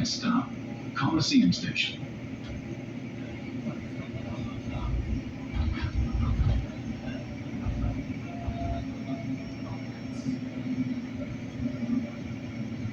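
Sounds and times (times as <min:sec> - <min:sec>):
train wheels rumbling on rails: 0:02.3 - 0:12.9.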